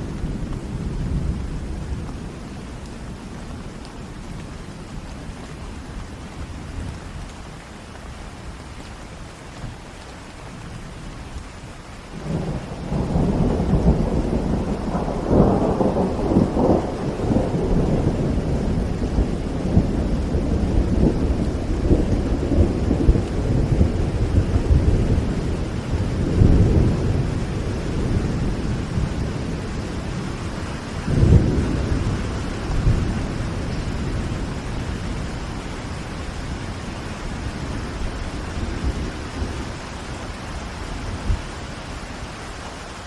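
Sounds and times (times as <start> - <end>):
low thunder rumbling: 0.0 - 7.6, 10.5 - 42.4
steady rain falling: 0.0 - 43.0.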